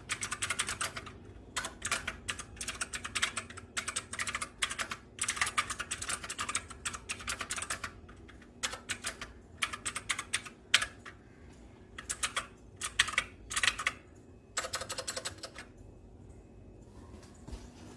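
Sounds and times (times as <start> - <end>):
mechanical keyboard typing: 0.0 - 11.2, 12.0 - 15.8.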